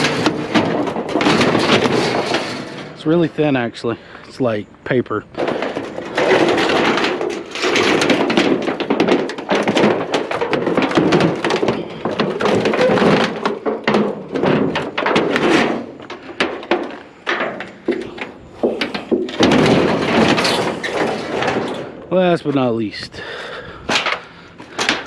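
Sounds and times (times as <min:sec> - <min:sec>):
tin sheet metal clanking: 0:00.0 - 0:04.4, 0:05.3 - 0:22.6.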